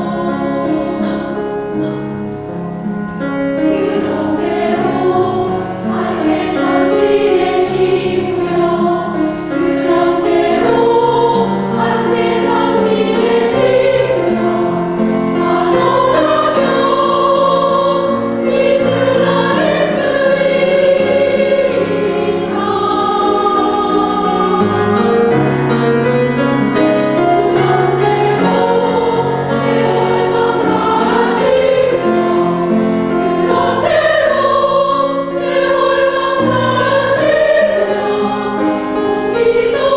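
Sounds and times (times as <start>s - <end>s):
choir singing held notes: 0.0s - 39.9s.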